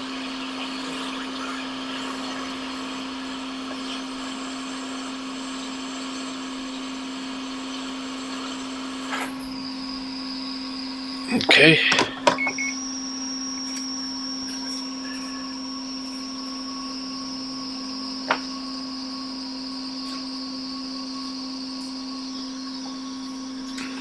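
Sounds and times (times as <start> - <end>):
hot-air blower humming: 0.0 - 24.0.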